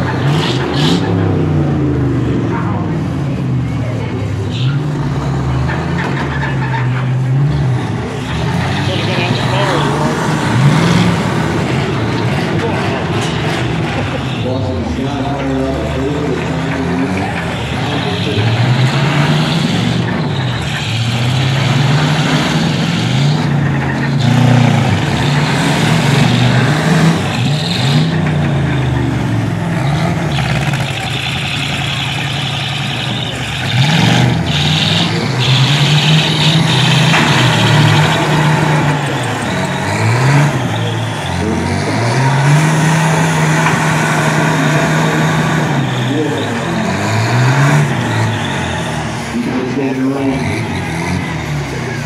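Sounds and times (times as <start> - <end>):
truck engines revving hard: 0.0 - 52.0
trucks colliding with bangs: 0.0 - 52.0.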